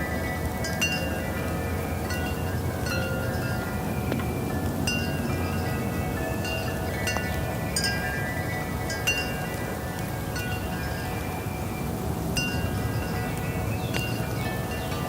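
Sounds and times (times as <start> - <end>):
low rush of wind: 0.0 - 15.0
wind chimes ringing: 0.0 - 15.0.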